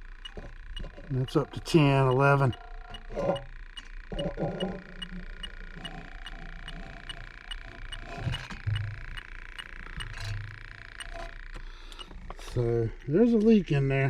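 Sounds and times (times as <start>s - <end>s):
leak detector ticking: 0.0s - 14.0s
short low hums: 0.0s - 14.0s
steady high hum: 0.0s - 14.0s.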